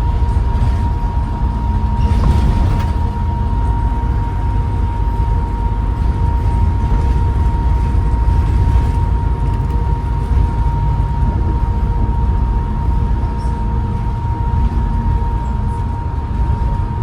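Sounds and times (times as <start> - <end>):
bus engine low rumble: 0.0 - 17.0
turbo whine: 0.0 - 17.0.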